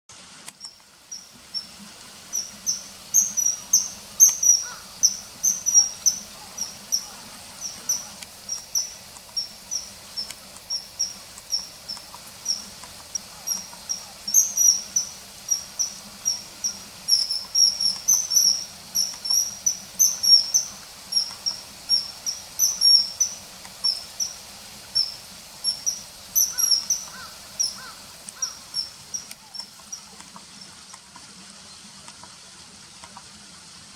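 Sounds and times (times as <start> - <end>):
kingfisher shrill chirps: 2.3 - 30.1.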